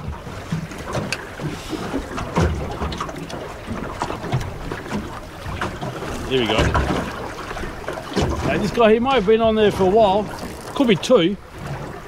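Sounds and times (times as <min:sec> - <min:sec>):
boat knocking: 0:00.0 - 0:12.0
water slapping against boat hull: 0:00.0 - 0:12.0.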